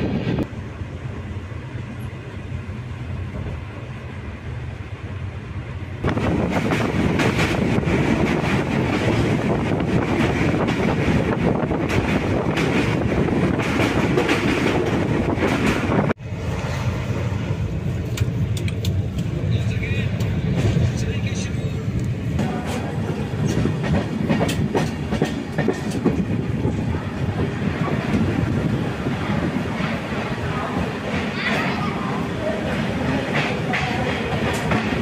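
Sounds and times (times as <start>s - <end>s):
train rumble and rattle: 0.0s - 35.0s.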